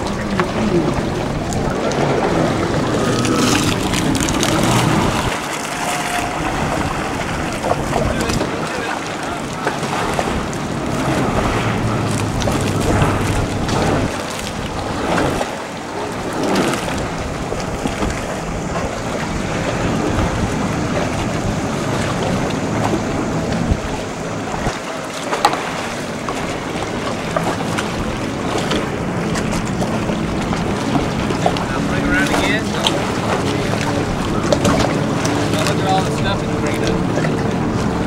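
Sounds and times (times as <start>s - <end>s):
watercraft engine humming: 0.0s - 38.0s
wind buffeting microphone: 0.0s - 38.0s.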